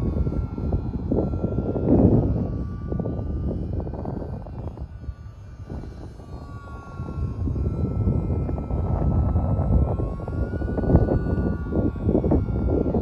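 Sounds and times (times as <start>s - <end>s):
model plane motor whine: 0.0s - 13.0s
wind noise on microphone: 0.0s - 13.0s.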